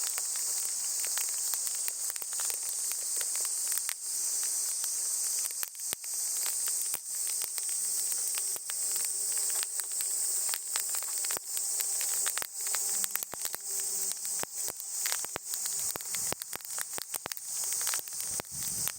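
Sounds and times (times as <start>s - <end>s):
campfire crackling and popping: 0.0s - 18.9s
cicadas droning: 0.0s - 18.9s.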